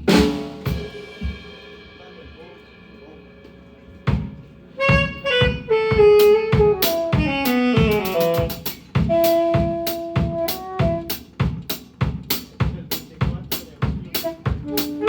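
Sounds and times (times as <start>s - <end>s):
drum kit steady beat: 0.0s - 15.0s.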